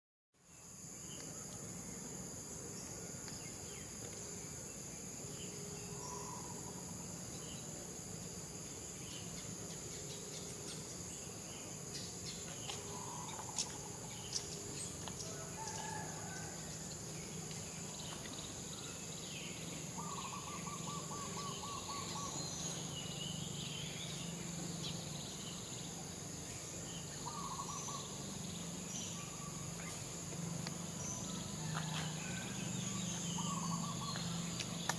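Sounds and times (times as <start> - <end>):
insect drone: 0.4 - 34.9.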